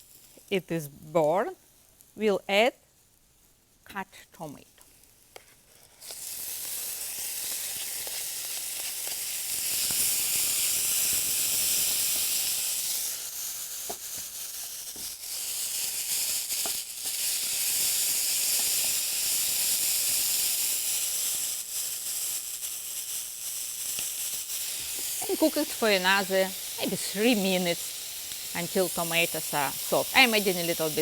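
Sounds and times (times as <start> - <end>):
vegetables sizzling in a frying pan: 0.0 - 31.0.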